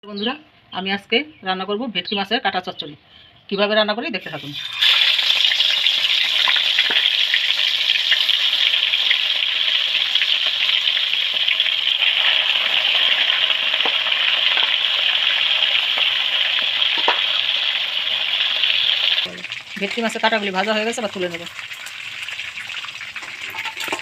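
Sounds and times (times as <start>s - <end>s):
fish bones sizzling in oil: 4.4s - 24.0s.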